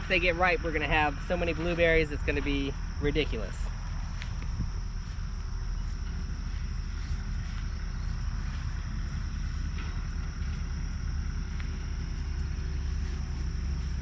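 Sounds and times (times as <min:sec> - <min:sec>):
insect drone: 0:00.0 - 0:14.0
mower engine running: 0:00.0 - 0:14.0.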